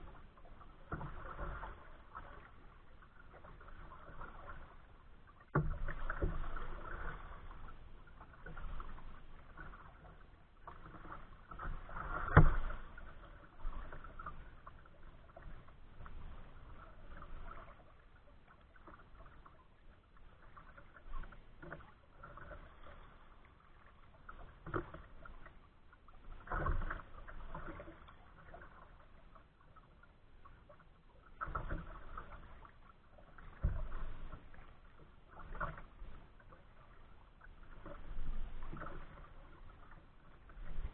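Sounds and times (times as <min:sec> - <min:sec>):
water splashing against kayak hull: 0:00.0 - 0:40.9.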